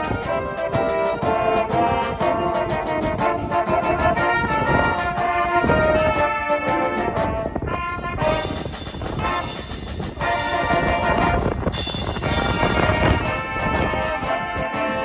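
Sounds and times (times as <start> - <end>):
drum kit and cymbals beat: 0.0 - 7.2, 8.2 - 15.0
brass band playing: 0.0 - 15.0.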